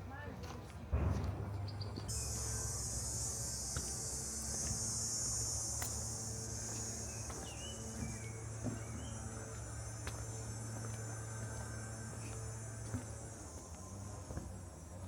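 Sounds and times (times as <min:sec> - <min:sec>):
low steady hum: 0:00.9 - 0:15.0
high-pitched insect chorus: 0:01.9 - 0:15.0.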